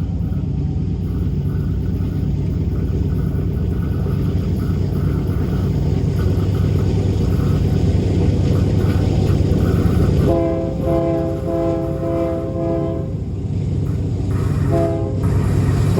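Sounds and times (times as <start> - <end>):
diesel locomotive engine rumbling: 0.0 - 15.9.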